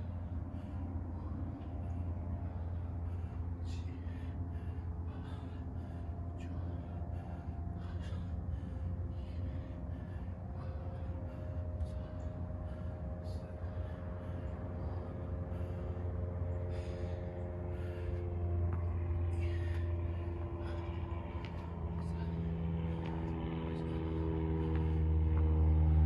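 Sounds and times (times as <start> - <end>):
person breathing hard: 0.0 - 26.0
steady low hum: 0.0 - 26.0.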